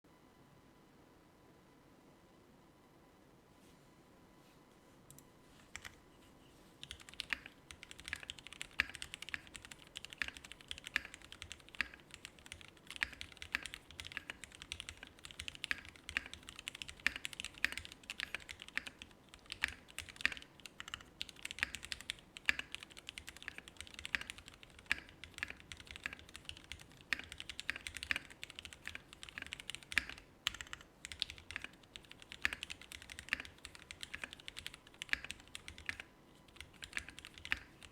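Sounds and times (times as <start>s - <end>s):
mechanical keyboard typing: 5.1s - 6.0s, 6.8s - 37.9s.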